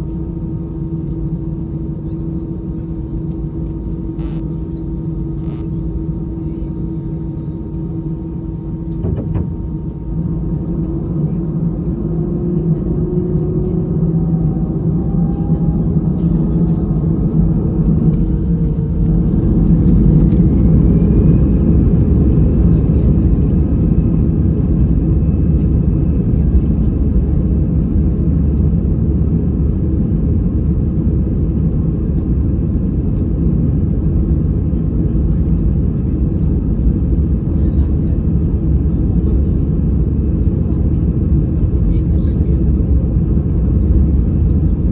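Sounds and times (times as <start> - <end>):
loud cabin rumble: 0.0 - 44.9
jet engines whining: 7.4 - 44.9.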